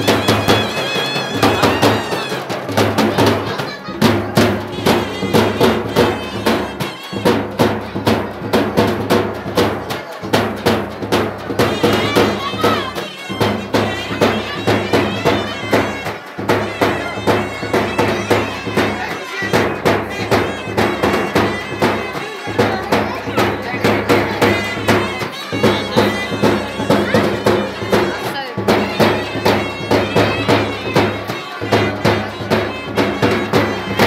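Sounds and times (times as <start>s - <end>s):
reed wind instrument melody: 0.0s - 10.3s, 11.0s - 34.0s
frame drums beating: 0.0s - 34.0s.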